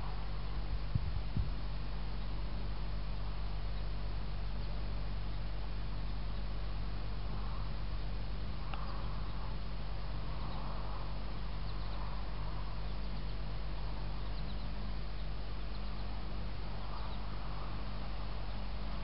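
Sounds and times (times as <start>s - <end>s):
low hum and hiss: 0.0s - 19.0s
faint bird chirps: 2.0s - 19.0s.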